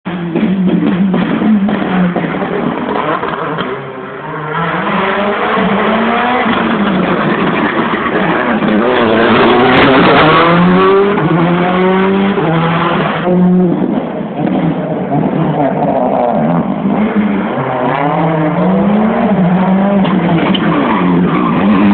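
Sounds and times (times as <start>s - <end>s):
rally car engine revving: 0.1s - 21.9s.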